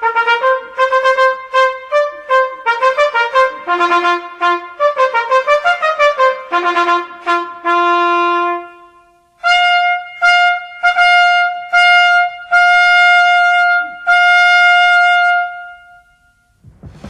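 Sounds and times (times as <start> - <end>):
trumpet fanfare: 0.0 - 16.2.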